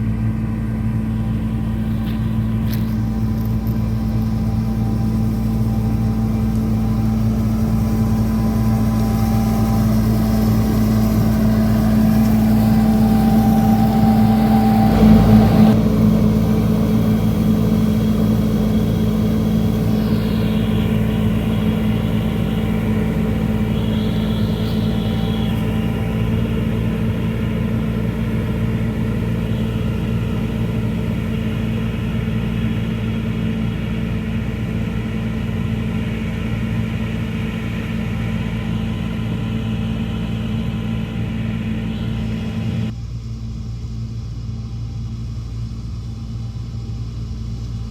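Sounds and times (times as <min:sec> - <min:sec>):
machinery engine running: 0:00.0 - 0:43.0.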